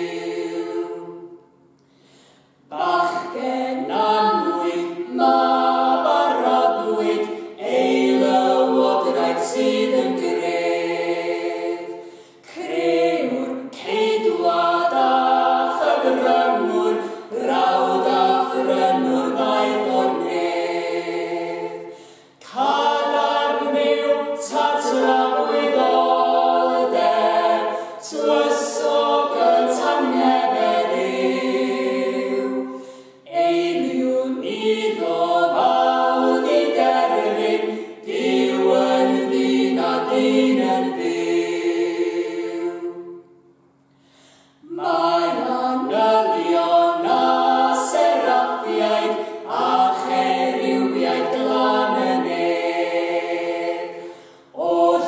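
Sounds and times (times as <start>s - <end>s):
small group singing unaccompanied: 0.0s - 1.6s, 2.6s - 43.5s, 44.3s - 55.0s.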